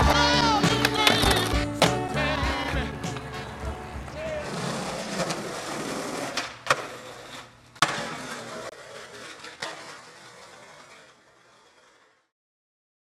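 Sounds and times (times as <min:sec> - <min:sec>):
skateboard clacking on ground: 0:00.0 - 0:12.1
skateboard wheels rolling on concrete: 0:00.0 - 0:12.3.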